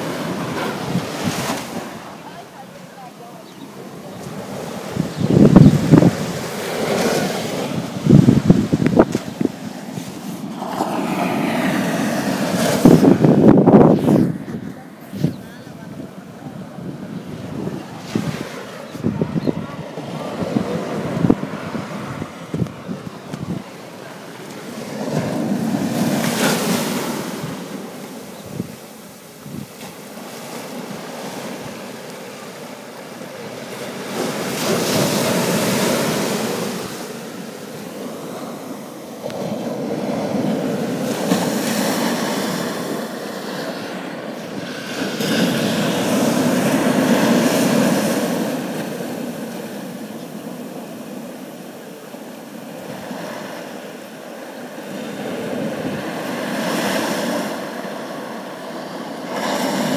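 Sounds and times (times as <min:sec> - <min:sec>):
ocean surf breaking on rocks: 0:00.0 - 0:59.9.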